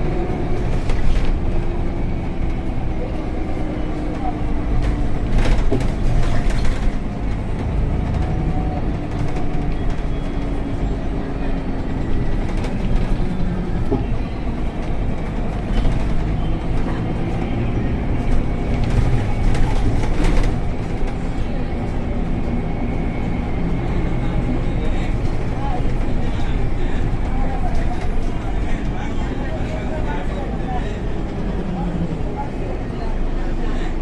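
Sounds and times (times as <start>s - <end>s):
diesel bus engine drone: 0.0s - 34.0s
road rumble: 0.0s - 34.0s.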